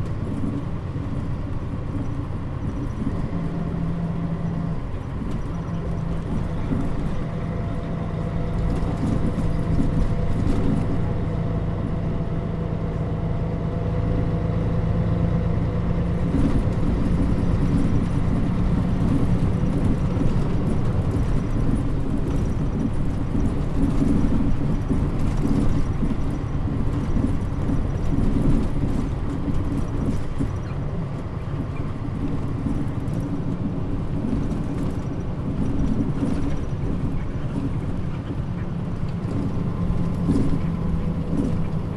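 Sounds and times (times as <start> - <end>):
bus diesel engine drone: 0.0 - 41.9
road noise: 0.0 - 41.9.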